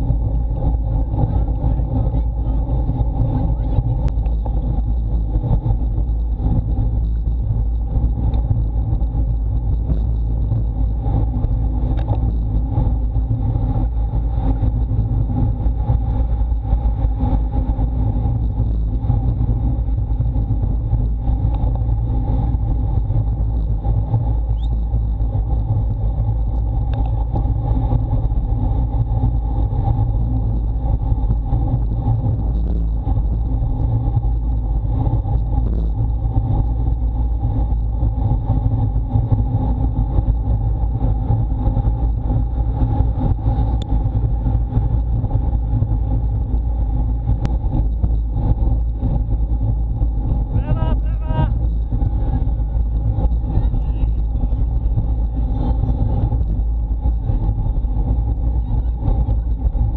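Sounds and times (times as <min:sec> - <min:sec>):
tyres humming on asphalt: 0:00.0 - 0:59.9
wind buffeting microphone: 0:00.0 - 0:59.9.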